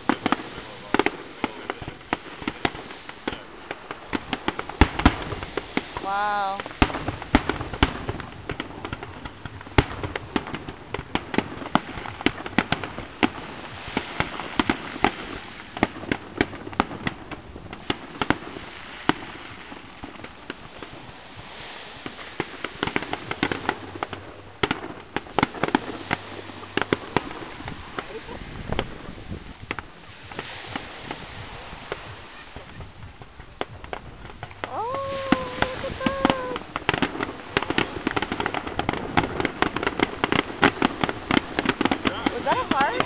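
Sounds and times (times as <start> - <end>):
fireworks bangs: 0.0 - 43.0
fireworks crackle and rumble: 0.0 - 43.0.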